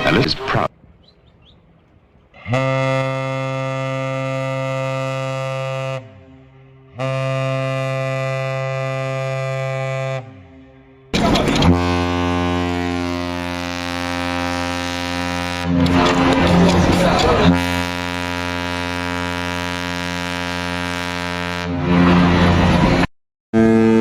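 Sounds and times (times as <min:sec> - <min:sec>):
ship's horn blasts: 0:02.3 - 0:24.0
second ship's horn: 0:02.4 - 0:24.0.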